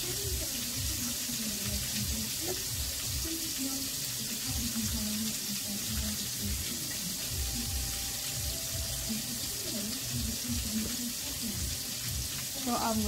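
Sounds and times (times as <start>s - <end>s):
oil sizzling hiss: 0.0s - 13.0s.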